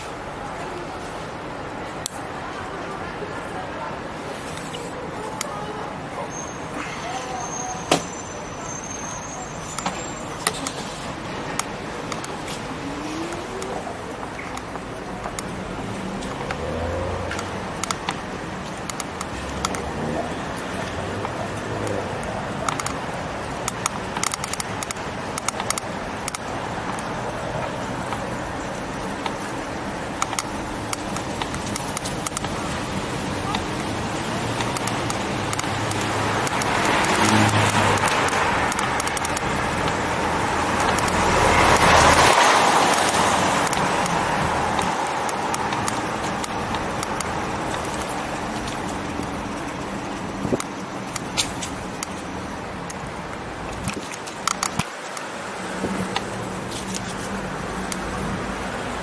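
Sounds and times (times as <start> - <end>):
road and traffic noise: 0.0 - 59.0
sharp irregular clicks and rattles: 9.6 - 59.0.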